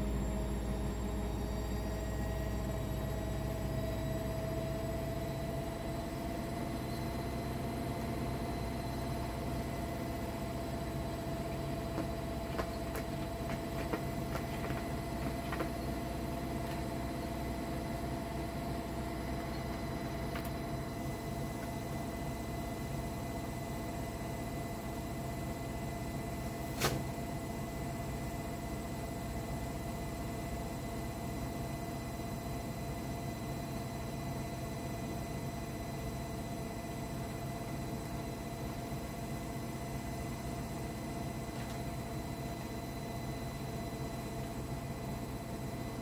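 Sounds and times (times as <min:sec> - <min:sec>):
machine hum with whining tone: 0:00.0 - 0:46.0.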